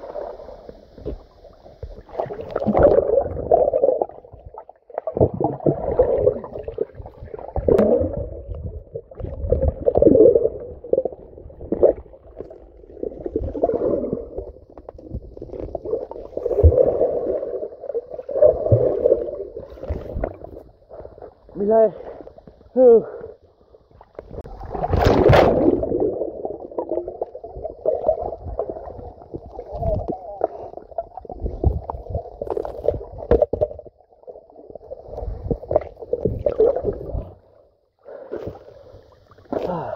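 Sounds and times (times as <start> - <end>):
underwater river gurgling: 0.0 - 39.9.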